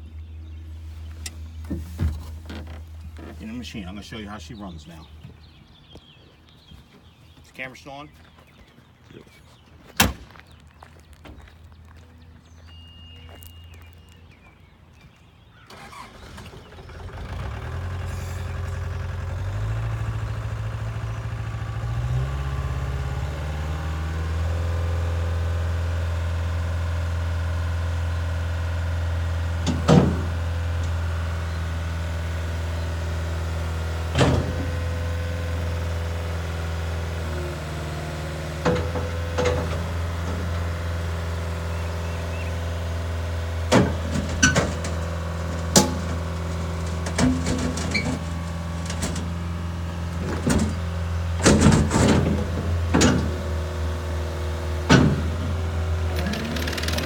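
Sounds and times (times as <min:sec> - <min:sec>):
diesel engine starting and running: 0:00.0 - 0:08.6, 0:09.6 - 0:57.0.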